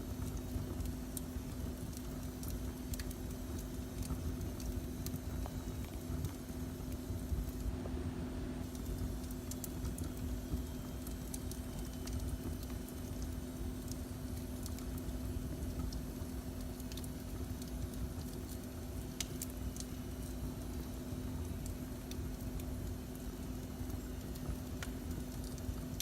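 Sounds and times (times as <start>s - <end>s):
wood fire crackling and popping: 0.0s - 7.9s, 8.6s - 26.0s
constant low hum: 0.0s - 26.0s
fire low rumble: 0.0s - 26.0s.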